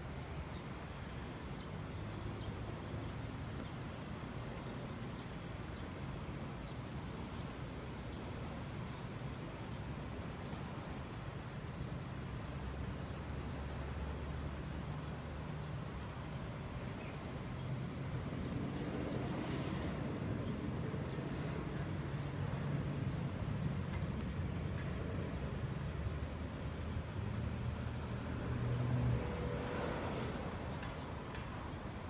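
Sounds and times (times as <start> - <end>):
distant traffic rumble: 0.0 - 32.0.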